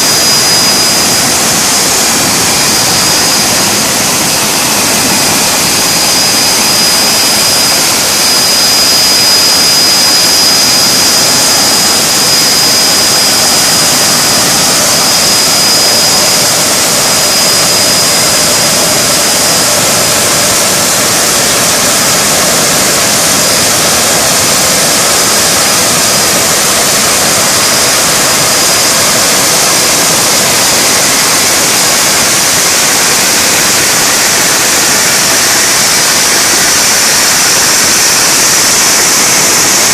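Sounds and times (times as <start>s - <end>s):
thin high whistle: 0.0s - 39.9s.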